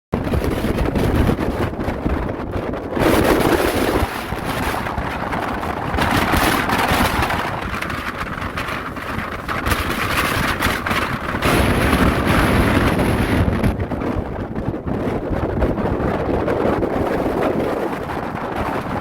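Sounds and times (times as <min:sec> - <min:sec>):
wind buffeting microphone: 0:00.1 - 0:19.0
storm waves breaking on shore: 0:00.2 - 0:19.0.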